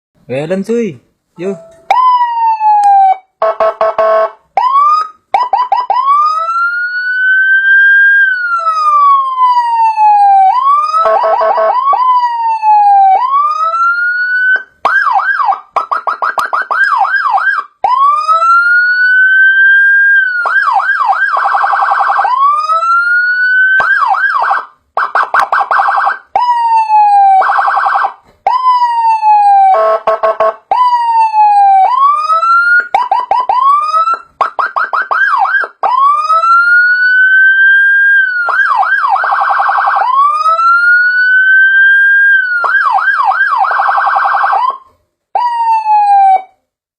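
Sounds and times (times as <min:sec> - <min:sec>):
police siren wail and yelp: 0:01.9 - 0:46.6.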